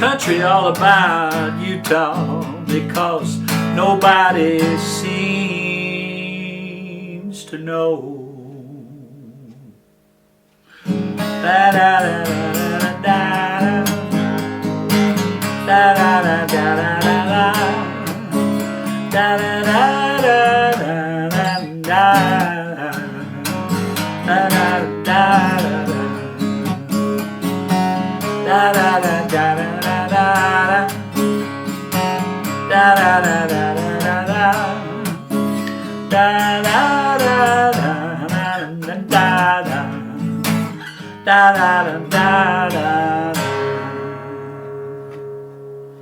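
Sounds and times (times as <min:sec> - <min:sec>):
man singing wordless melody: 0:00.0 - 0:09.9, 0:10.7 - 0:45.0
strummed acoustic guitar: 0:00.0 - 0:46.0.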